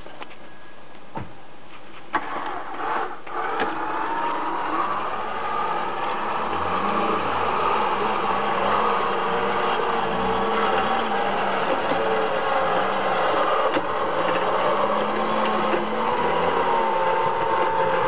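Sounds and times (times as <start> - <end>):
vehicle engine starting and running: 2.1 - 18.0.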